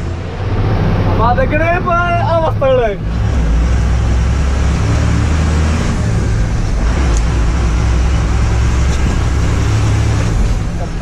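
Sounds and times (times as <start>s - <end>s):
diesel truck engine hum: 0.0s - 11.0s
road and cab noise: 0.0s - 11.0s.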